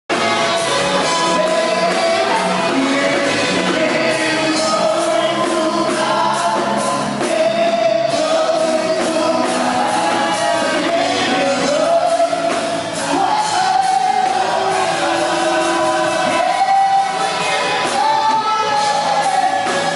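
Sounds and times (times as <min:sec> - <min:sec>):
group of voices singing: 0:00.1 - 0:19.9
loud band accompaniment: 0:00.1 - 0:19.9.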